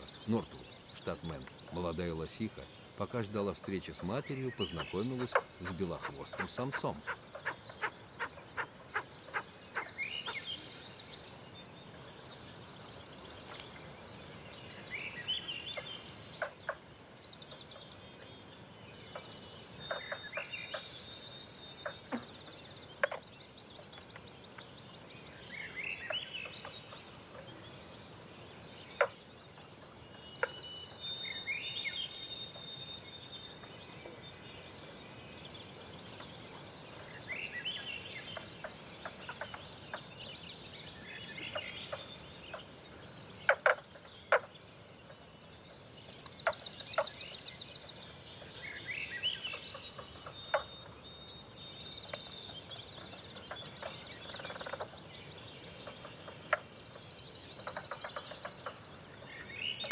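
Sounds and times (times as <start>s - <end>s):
songbird singing buzzy trill: 0.0s - 59.9s
steady low hiss: 0.0s - 59.9s.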